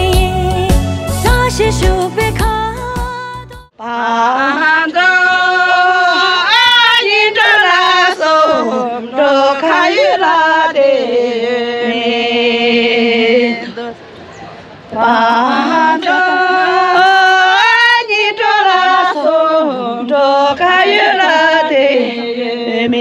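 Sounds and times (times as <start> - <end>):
woman singing slow song: 0.0 - 14.0, 14.9 - 23.0.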